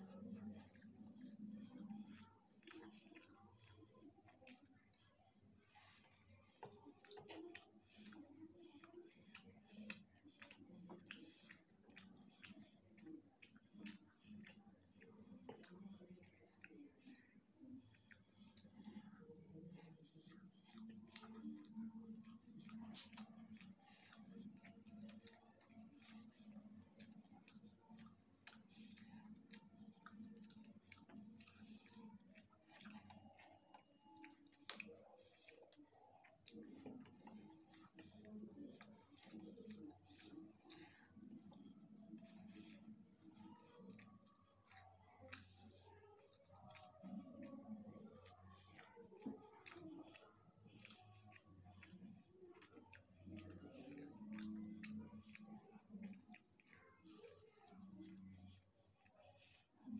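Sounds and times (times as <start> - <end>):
chewing with wet mouth clicks: 0.0 - 59.9
eating rice by hand: 0.0 - 59.9.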